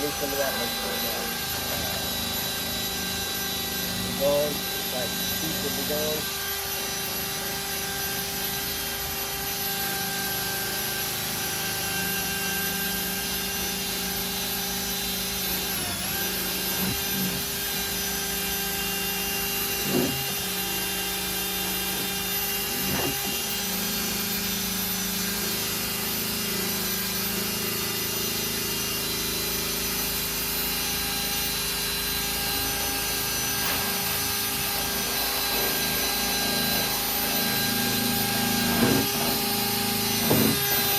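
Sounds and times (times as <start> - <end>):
small electric power tool running: 0.0 - 40.9.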